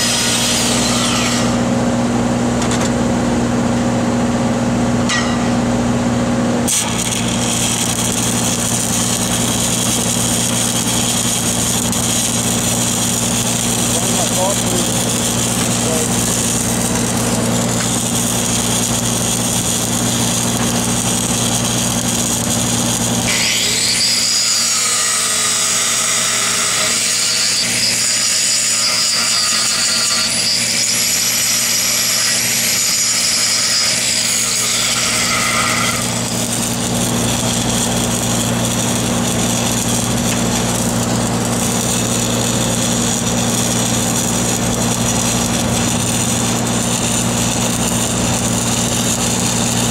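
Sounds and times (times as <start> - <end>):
power tool whirring: 0.0 - 1.8, 6.6 - 49.9
welding machine engine running: 0.0 - 24.3, 34.0 - 49.9.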